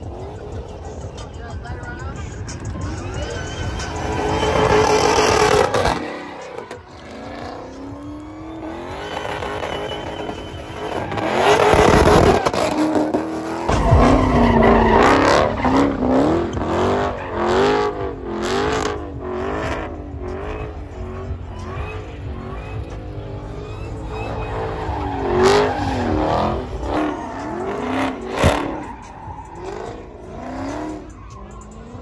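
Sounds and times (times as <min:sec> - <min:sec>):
car engine revving: 0:00.0 - 0:32.0
tyres squealing on asphalt: 0:00.0 - 0:32.0.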